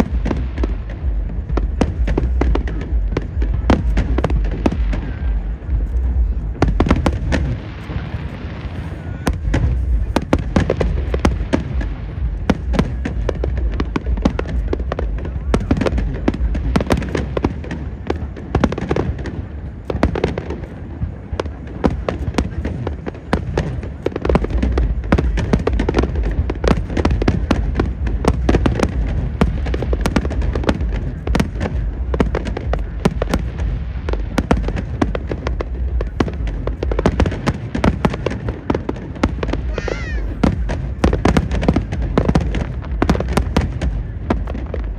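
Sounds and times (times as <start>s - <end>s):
deep booming rumble: 0.0s - 44.9s
fireworks cracks and bangs: 0.0s - 44.9s.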